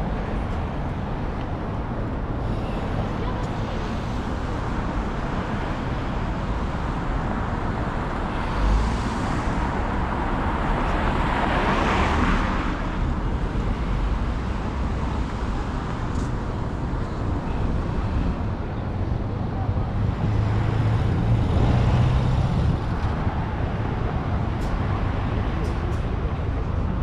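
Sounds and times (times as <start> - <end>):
steady hum of road traffic: 0.0 - 27.0.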